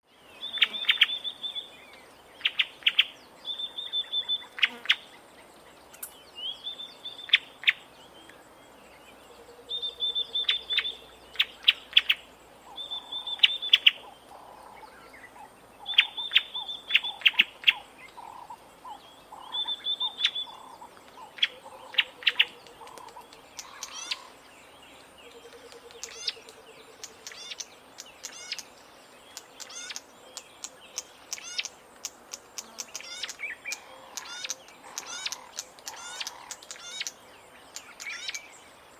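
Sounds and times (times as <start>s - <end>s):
warbler calling: 0.2s - 5.2s, 5.8s - 38.9s.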